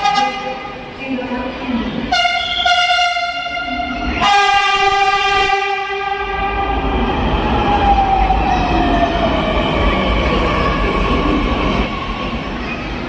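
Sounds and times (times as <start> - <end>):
train whining: 0.0 - 13.0.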